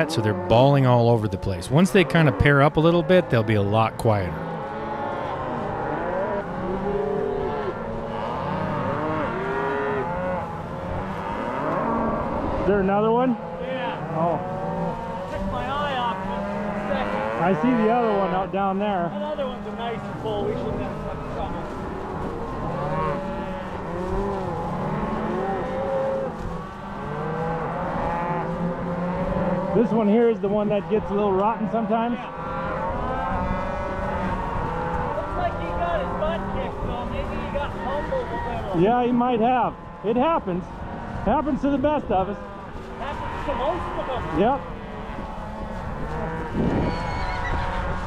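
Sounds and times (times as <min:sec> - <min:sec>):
cows mooing: 0:00.0 - 0:48.0.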